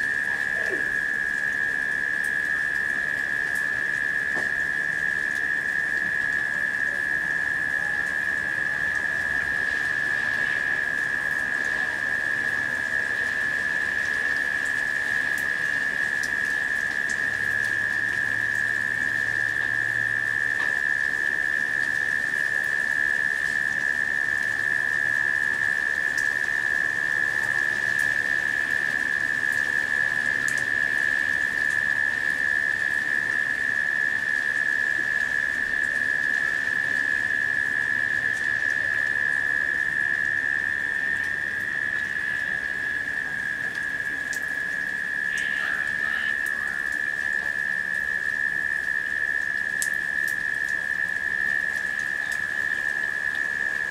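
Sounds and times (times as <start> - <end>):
cicadas droning: 0.0 - 53.9
rain falling on leaves: 0.0 - 53.9
raindrop ticks: 0.0 - 53.9.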